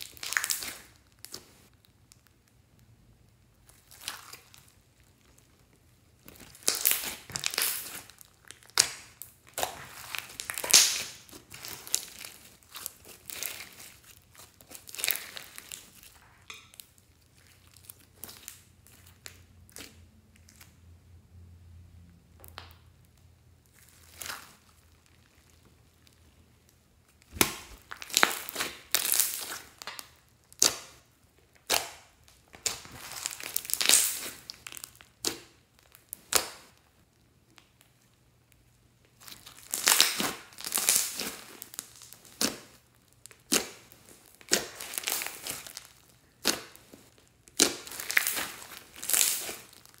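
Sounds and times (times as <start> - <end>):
hands squeezing crackly slime: 0.0 - 20.8, 22.4 - 50.0.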